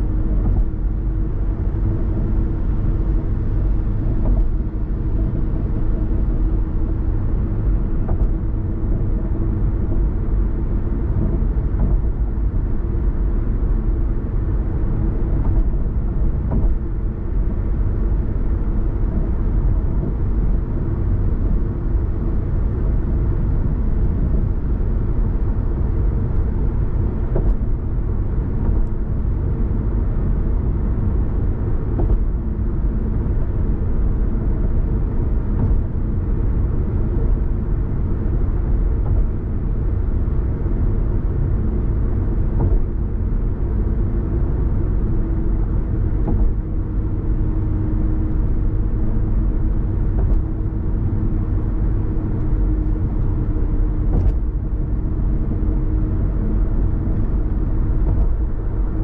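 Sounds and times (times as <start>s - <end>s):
car engine and tyre rumble: 0.0s - 59.0s
steady low hum: 0.0s - 59.0s.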